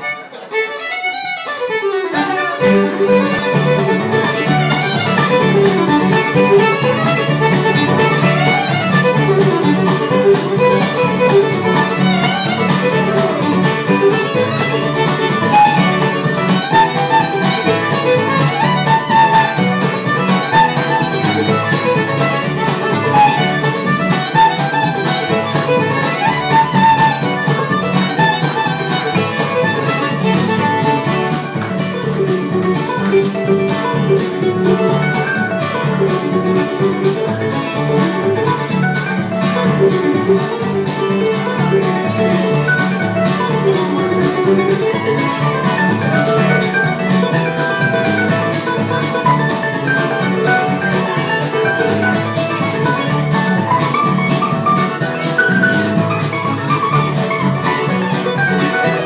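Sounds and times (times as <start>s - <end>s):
bluegrass band playing: 0.0s - 59.0s.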